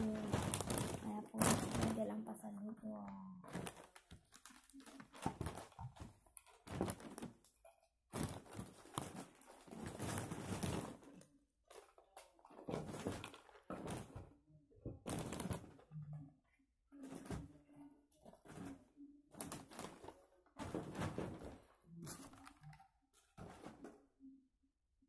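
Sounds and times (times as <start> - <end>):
wrapping rustling and crinkling: 0.0 - 16.0, 17.0 - 24.0.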